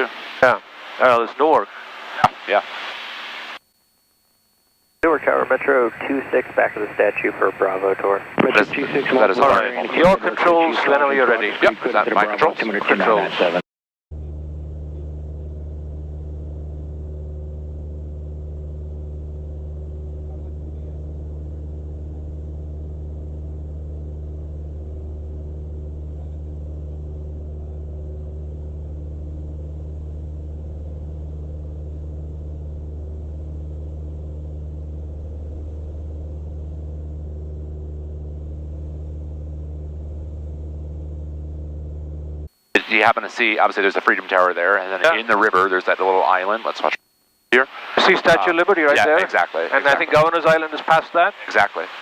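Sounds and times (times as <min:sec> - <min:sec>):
airplane engine droning in cockpit: 0:05.0 - 0:13.6, 0:14.2 - 0:46.8, 0:47.8 - 0:52.0.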